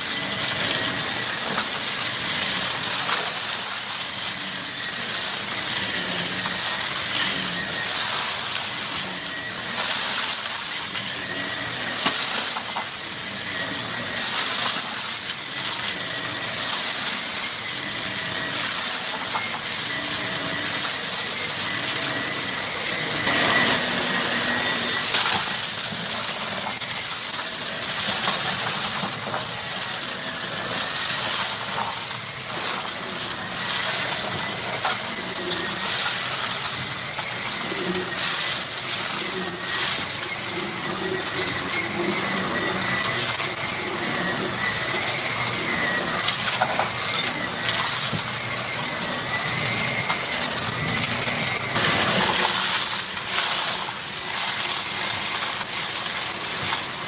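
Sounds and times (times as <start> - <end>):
debris crackling in vacuum: 0.0 - 57.0
vacuum cleaner motor whining: 0.0 - 57.0.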